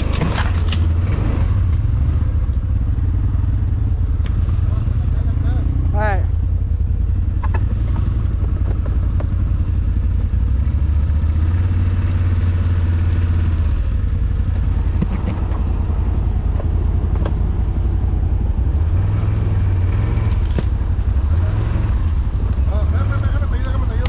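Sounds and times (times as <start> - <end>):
clatter: 0.0 - 5.3, 6.5 - 24.0
quad bike engine drone: 0.0 - 24.0.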